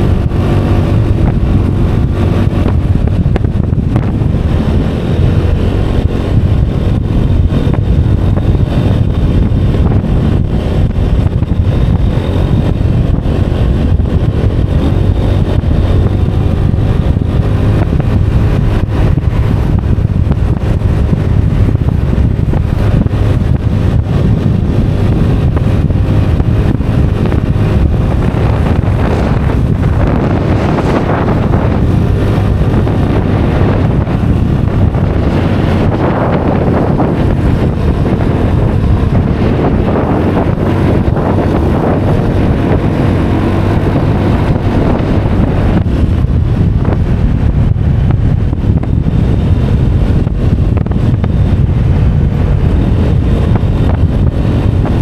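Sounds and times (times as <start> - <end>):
scooter engine running: 0.0 - 55.0
wind rush on microphone: 0.0 - 55.0.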